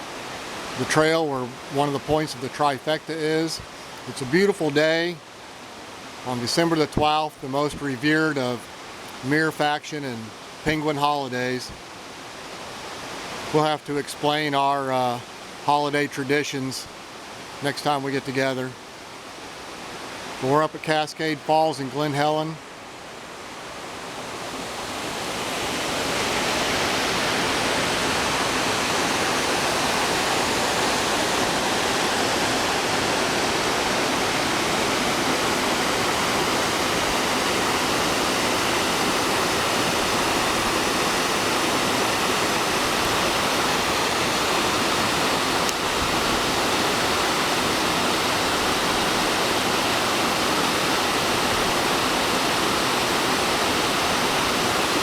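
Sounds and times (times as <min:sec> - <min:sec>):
waterfall rushing and splashing: 0:00.0 - 0:55.0.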